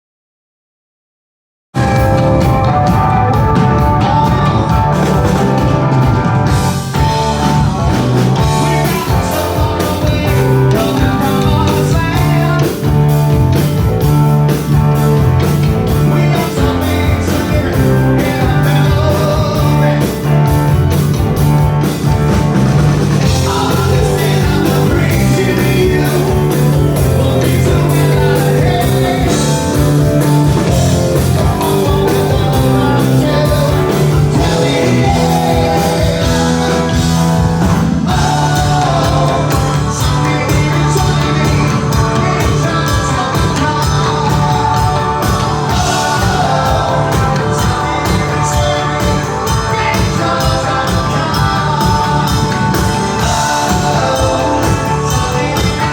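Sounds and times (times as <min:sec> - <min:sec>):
live rock band playing: 0:01.8 - 0:55.9.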